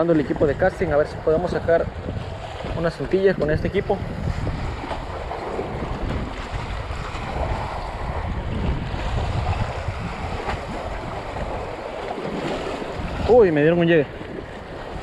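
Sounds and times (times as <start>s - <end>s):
sea waves against rocks: 0.0s - 15.0s
wind buffeting microphone: 0.0s - 15.0s.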